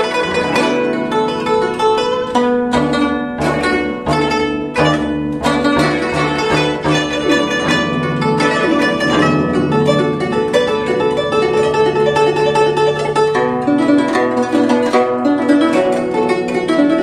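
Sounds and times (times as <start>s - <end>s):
zither plucked solo: 0.0s - 17.0s.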